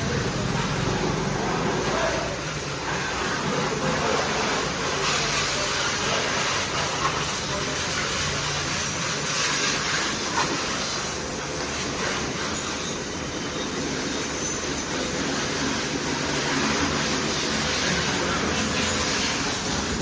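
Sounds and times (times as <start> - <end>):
pressure washer motor humming: 0.0 - 20.0
water spray hissing: 0.0 - 20.0.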